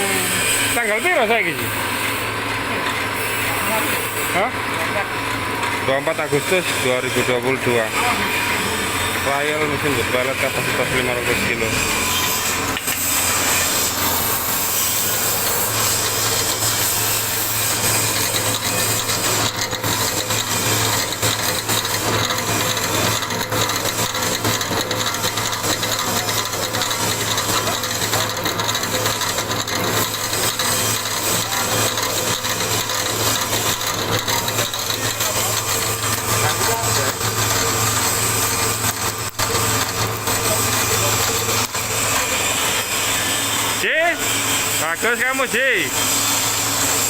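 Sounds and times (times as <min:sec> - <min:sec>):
pellet mill grinding: 0:00.0 - 0:47.0.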